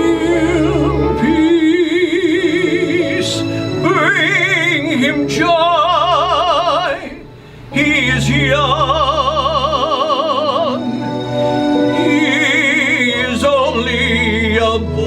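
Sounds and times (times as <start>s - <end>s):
operatic singing: 0.0s - 15.0s.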